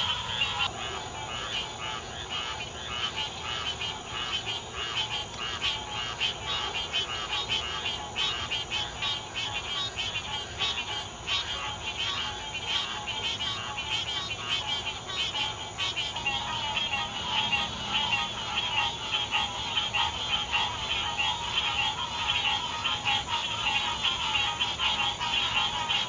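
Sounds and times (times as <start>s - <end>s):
frogs croaking: 0.0s - 26.0s.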